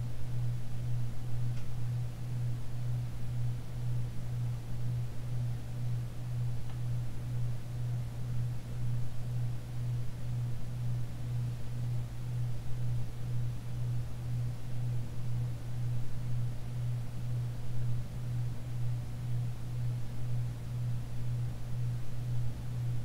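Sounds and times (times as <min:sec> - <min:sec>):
ceiling fan motor hum: 0:00.0 - 0:23.0.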